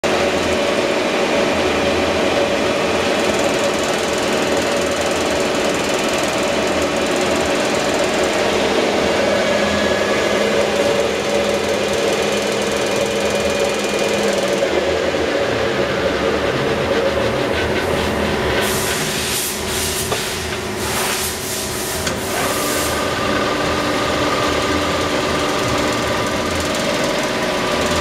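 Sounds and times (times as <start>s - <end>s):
lathe hum and gear whine: 0.0s - 28.0s.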